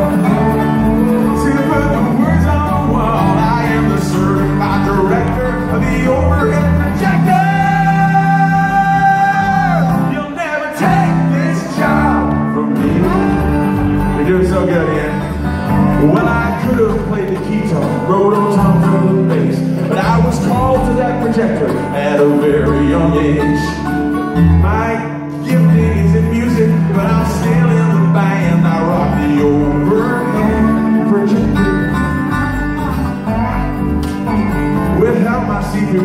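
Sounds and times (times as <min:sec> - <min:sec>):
country song with acoustic guitar: 0:00.0 - 0:36.0.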